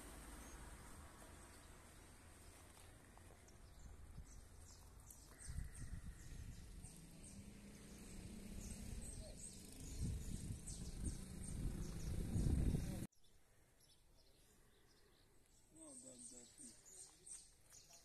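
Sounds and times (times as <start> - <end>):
small birds chirping: 0.4 - 18.0.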